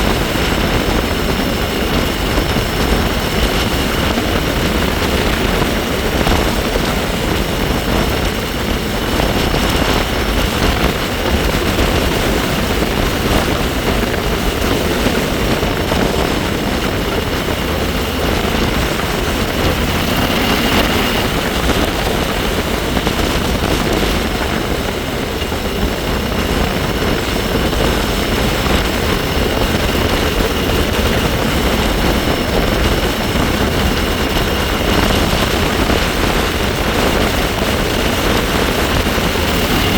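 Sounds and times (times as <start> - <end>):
high-pitched bike whine: 0.0 - 39.9
wind rushing over microphone: 0.0 - 39.9.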